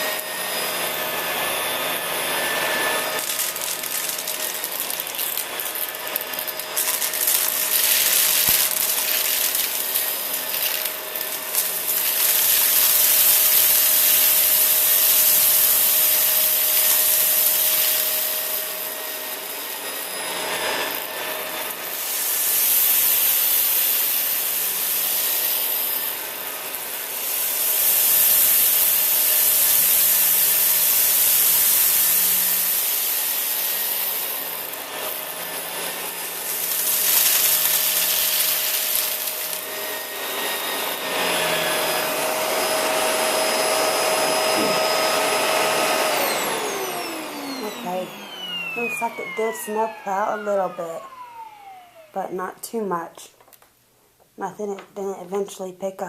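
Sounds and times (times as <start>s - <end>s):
vacuum cleaner over debris: 0.0s - 52.9s.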